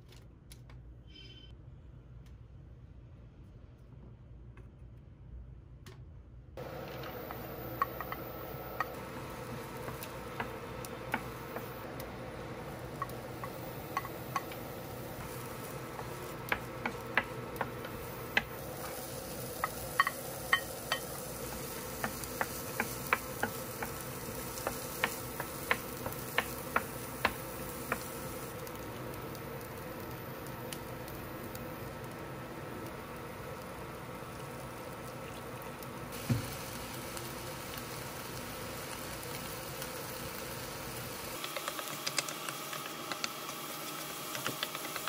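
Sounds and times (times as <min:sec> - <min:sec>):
steady hum: 0:05.1 - 0:45.0
vegetables sizzling in oil: 0:06.6 - 0:45.0.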